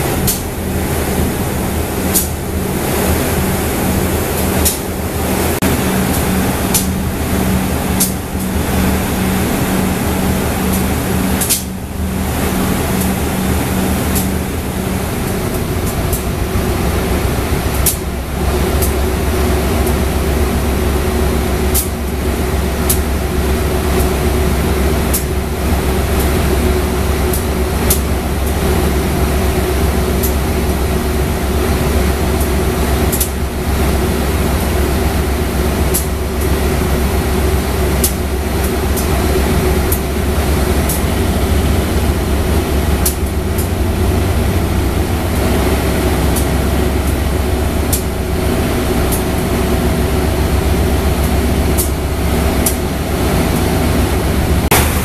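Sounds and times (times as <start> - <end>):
diesel train engine running: 0.0 - 55.0.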